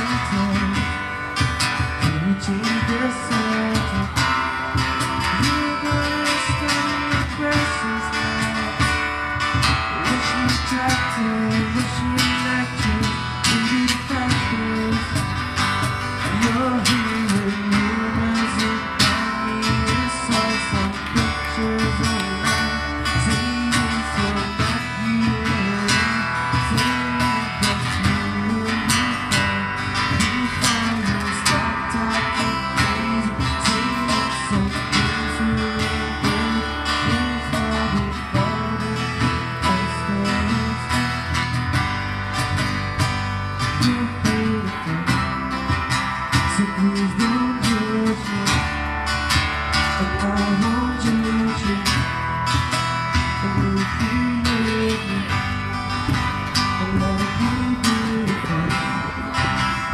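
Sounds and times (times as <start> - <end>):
man singing: 0.0 - 41.8, 43.6 - 59.9
cajon beat: 0.0 - 59.9
strummed acoustic guitars: 0.0 - 59.9.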